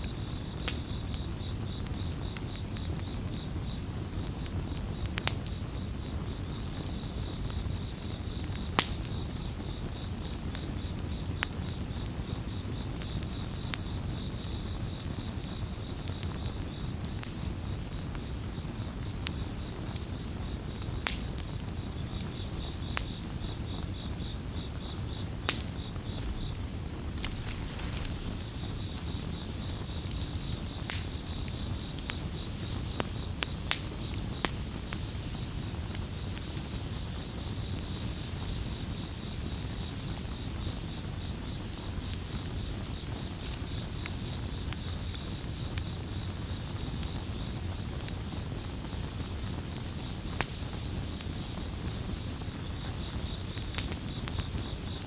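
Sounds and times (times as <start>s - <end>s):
campfire crackling: 0.0s - 55.0s
crickets chirping: 0.0s - 55.0s.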